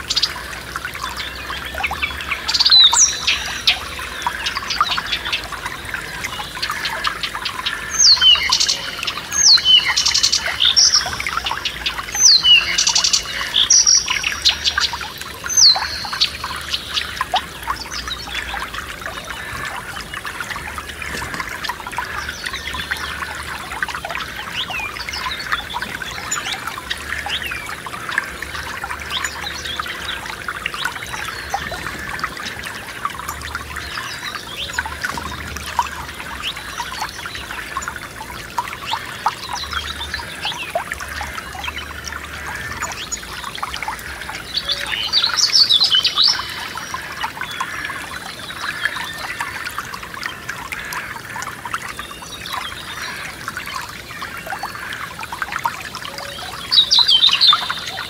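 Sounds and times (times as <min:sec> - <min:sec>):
birds singing: 0:00.0 - 0:58.0
stream trickling: 0:00.0 - 0:58.0.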